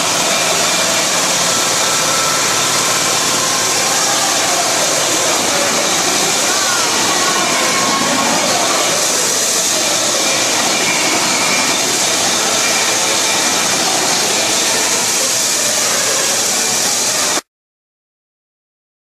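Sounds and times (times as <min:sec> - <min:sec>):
faint voices: 0:00.0 - 0:17.5
loud rushing noise: 0:00.0 - 0:17.5.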